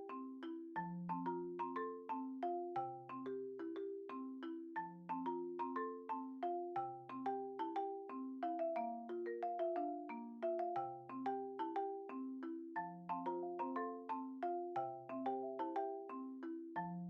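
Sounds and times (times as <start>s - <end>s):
mallet melody: 0.0s - 17.0s.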